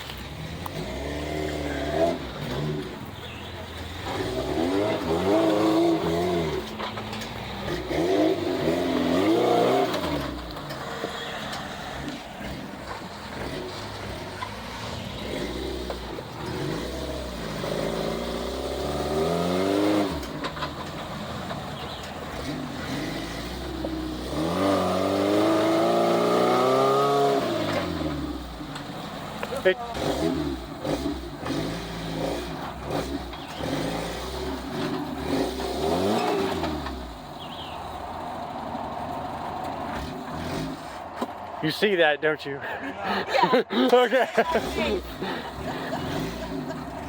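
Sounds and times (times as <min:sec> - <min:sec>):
off-road vehicle engine revving: 0:00.0 - 0:42.3, 0:42.9 - 0:47.0.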